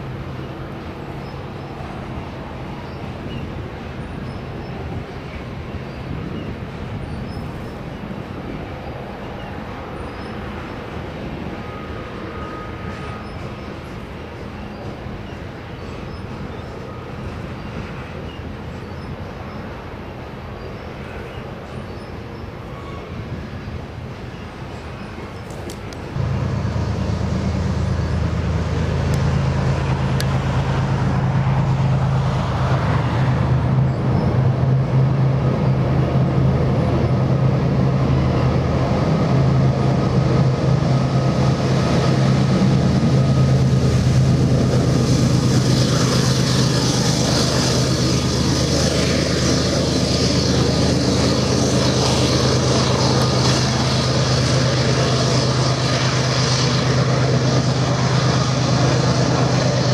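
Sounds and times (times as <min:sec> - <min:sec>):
diesel locomotives thrumming: 0:00.0 - 0:59.9
hiss of rolling freight cars: 0:00.0 - 0:59.9.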